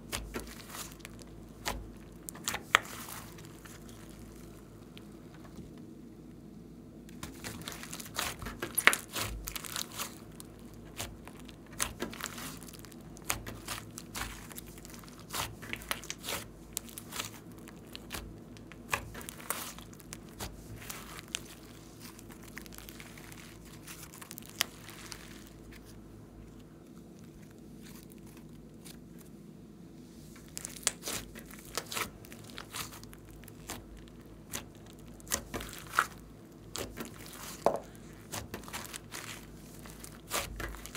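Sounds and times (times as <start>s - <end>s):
slime crackling and popping: 0.0s - 5.1s, 7.1s - 26.0s, 30.4s - 40.9s.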